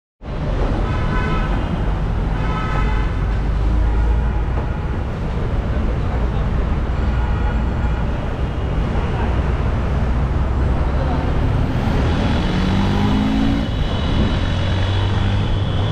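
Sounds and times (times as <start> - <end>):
road traffic rumble: 0.2 - 15.9.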